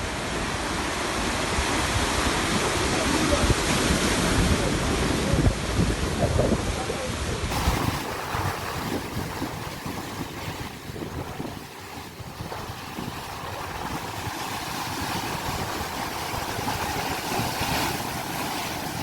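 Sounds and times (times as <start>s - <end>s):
sea waves washing on shore: 0.0s - 19.0s
wind rumbling on microphone: 0.0s - 19.0s.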